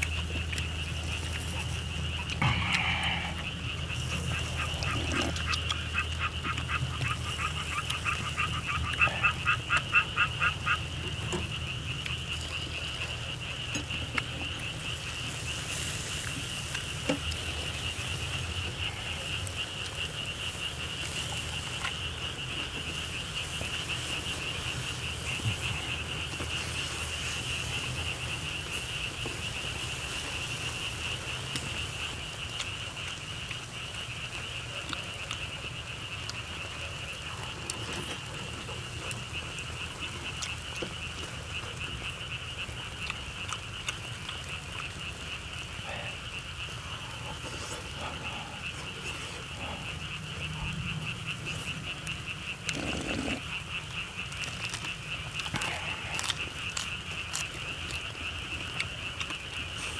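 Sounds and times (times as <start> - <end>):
frogs trilling: 0.0 - 59.9.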